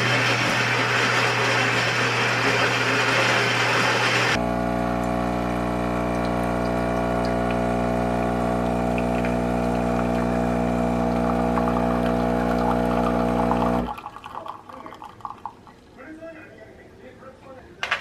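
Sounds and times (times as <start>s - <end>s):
coffee machine pump humming: 0.0s - 15.5s.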